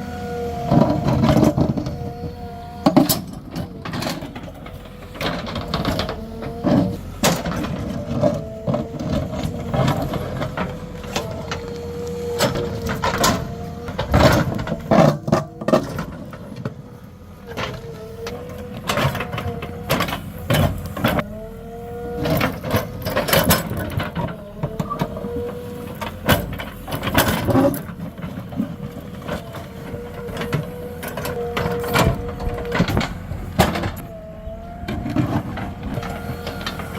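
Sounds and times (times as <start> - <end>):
backhoe diesel engine and hydraulics: 0.0 - 36.9.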